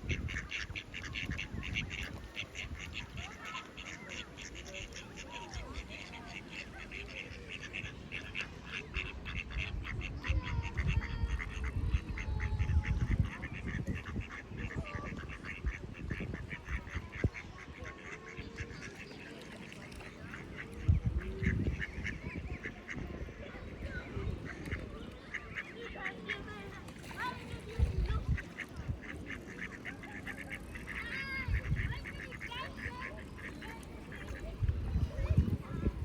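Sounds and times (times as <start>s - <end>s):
birds calling rapidly: 0.0s - 12.2s, 13.2s - 36.0s.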